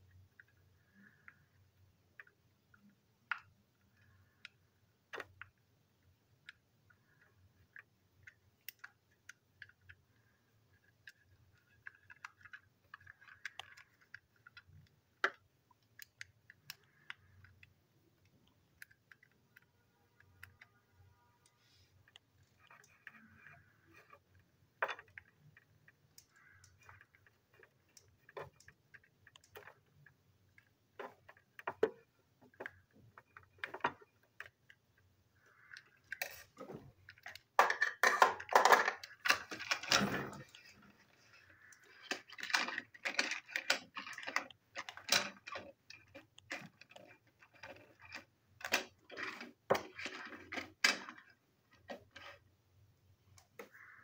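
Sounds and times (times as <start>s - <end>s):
plastic toys clattering: 6.3s - 52.5s.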